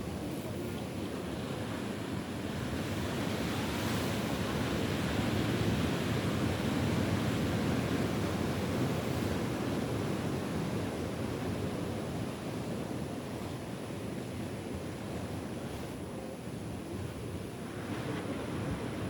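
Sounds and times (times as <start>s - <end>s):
sea surf washing on beach: 0.0s - 19.0s.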